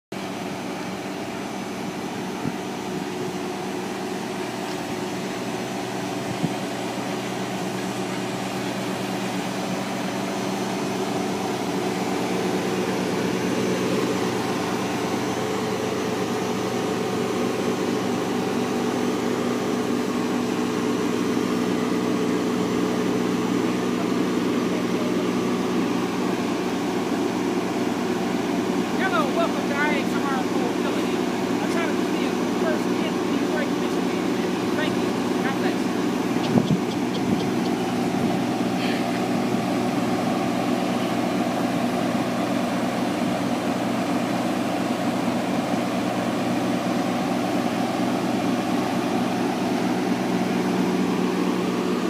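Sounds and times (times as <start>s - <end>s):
machine hum with low tones: 0.2s - 52.0s.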